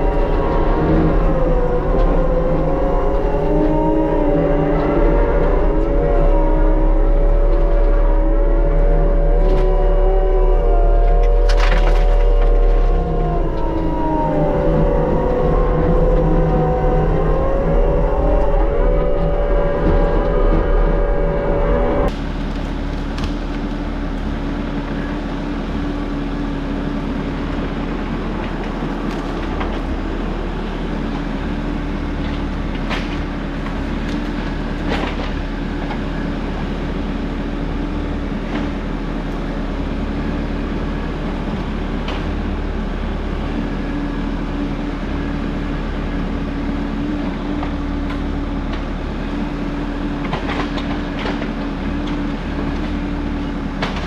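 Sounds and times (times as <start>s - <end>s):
mulching machine droning: 0.0s - 54.0s.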